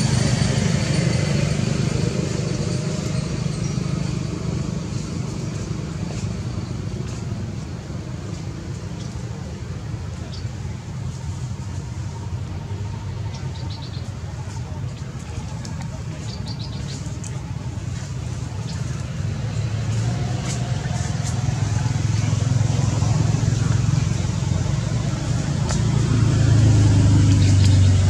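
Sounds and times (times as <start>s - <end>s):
low rumble of vehicle traffic: 0.0s - 28.0s.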